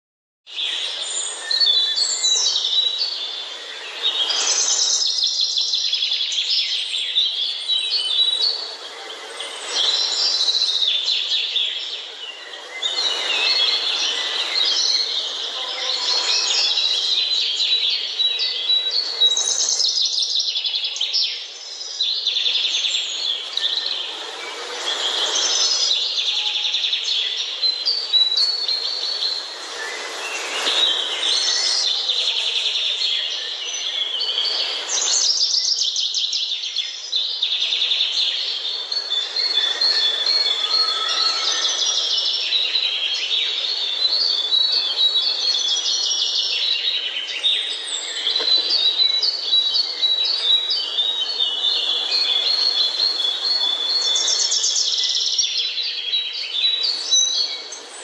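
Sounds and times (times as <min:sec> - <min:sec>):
songbirds singing and chirping: 0:00.5 - 0:58.0.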